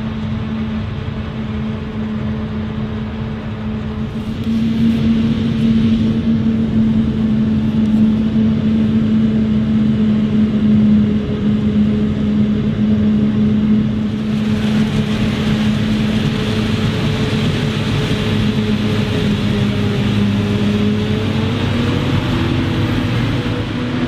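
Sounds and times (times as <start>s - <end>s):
forage harvester machine drone: 0.0s - 24.0s.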